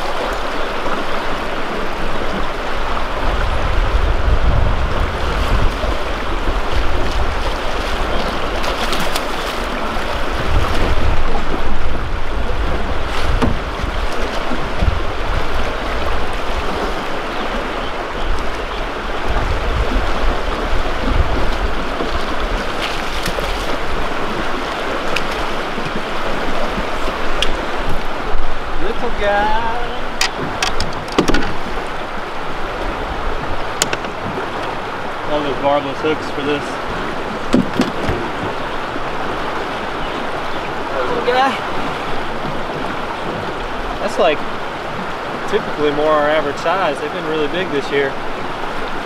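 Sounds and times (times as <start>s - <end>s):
wind buffeting microphone: 0.0s - 46.9s
river current rushing: 0.0s - 49.0s.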